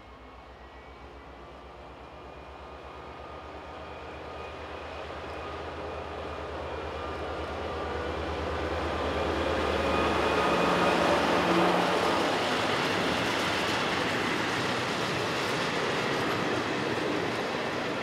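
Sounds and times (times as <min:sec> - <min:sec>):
train wheels rolling on rails: 0:02.5 - 0:18.0.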